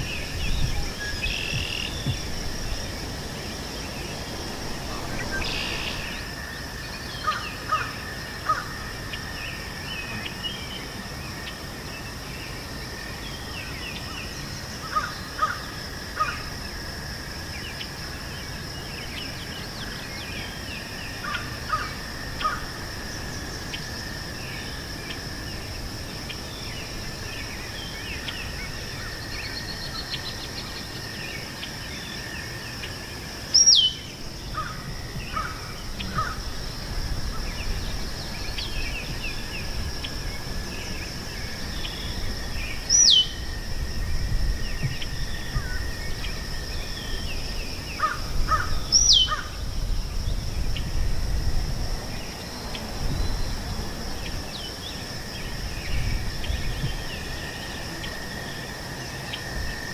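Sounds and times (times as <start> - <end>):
low wind rumble: 0.0 - 31.2, 31.9 - 59.9
insects droning: 0.0 - 59.9.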